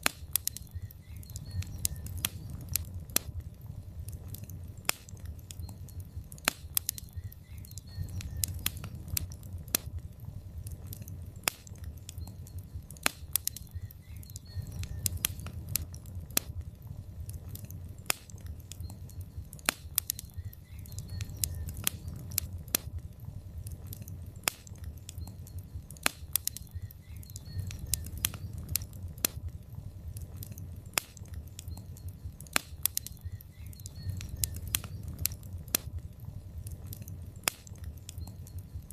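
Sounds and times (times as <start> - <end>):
low rumble of flames: 0.0 - 38.9
wood crackling and popping: 0.0 - 38.9.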